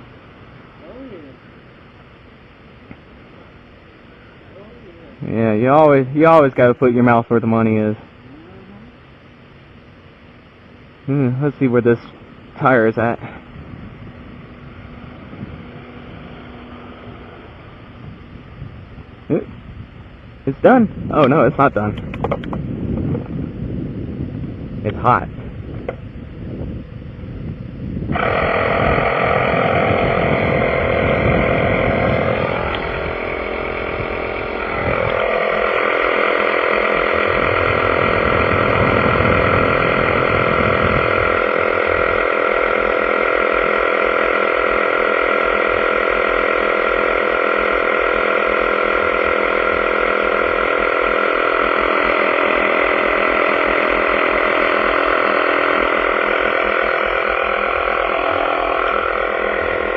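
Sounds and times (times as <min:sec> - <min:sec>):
air compressor whining: 0:00.0 - 0:59.9
low rumble: 0:00.0 - 0:59.9.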